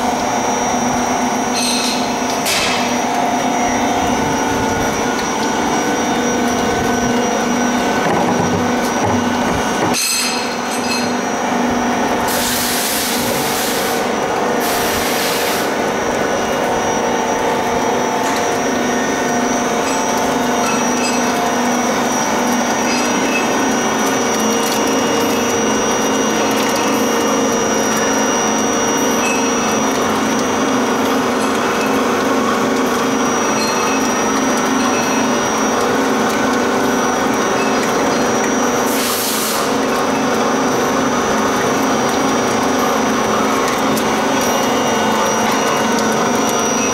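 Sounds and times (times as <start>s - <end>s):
oil press machine hum: 0.0s - 46.9s.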